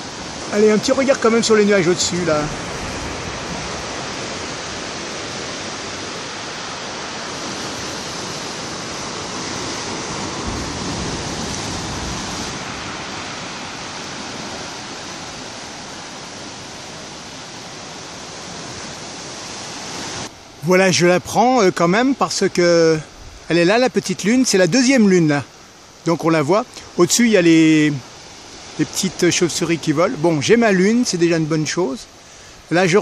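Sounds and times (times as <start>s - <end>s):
surf washing on shore: 0.0s - 33.0s.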